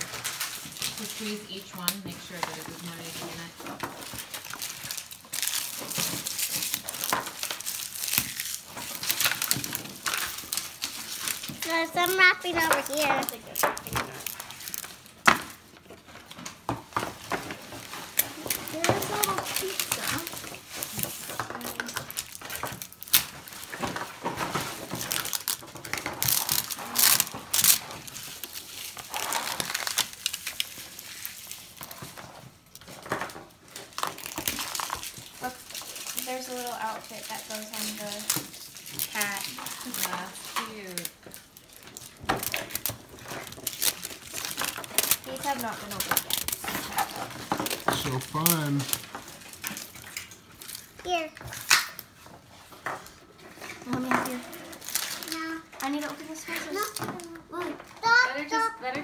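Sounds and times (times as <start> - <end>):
plastic wrappers crinkling: 0.0 - 59.0.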